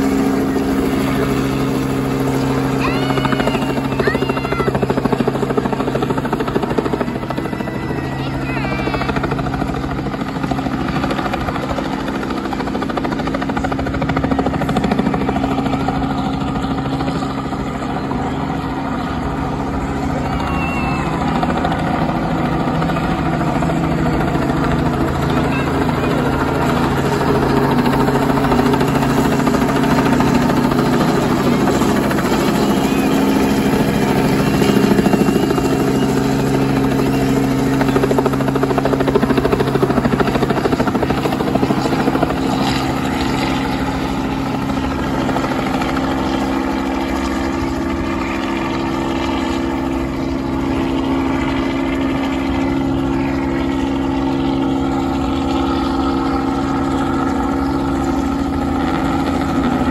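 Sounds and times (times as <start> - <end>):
helicopter rotor drone: 0.0 - 59.9.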